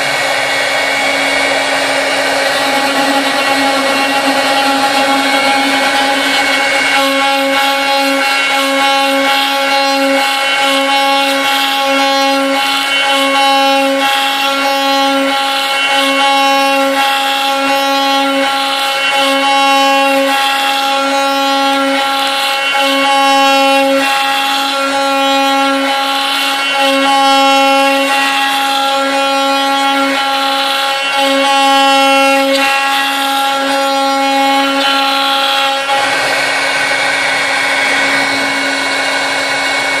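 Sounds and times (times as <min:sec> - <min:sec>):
cnc router spindle whine: 0:00.0 - 0:40.0
end mill cutting wood: 0:00.0 - 0:40.0.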